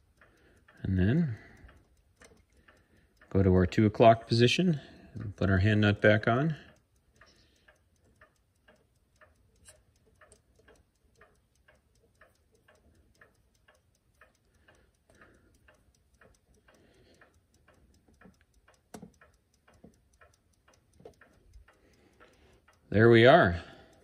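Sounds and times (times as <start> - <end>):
clock ticking: 0.0 - 24.0
sharp clock click: 0.0 - 24.0.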